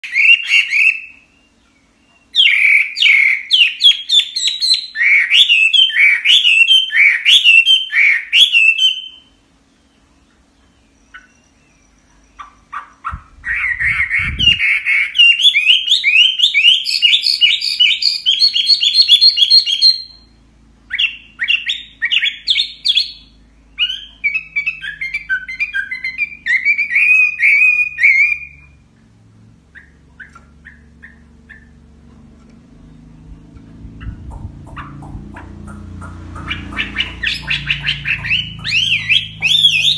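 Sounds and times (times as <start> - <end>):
bird singing whistled notes: 0.0 - 28.8, 32.7 - 39.9.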